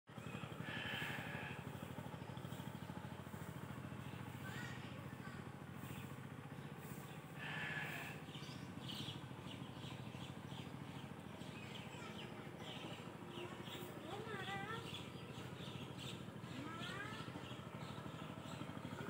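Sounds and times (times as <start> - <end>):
small birds chirping: 0.1 - 19.0.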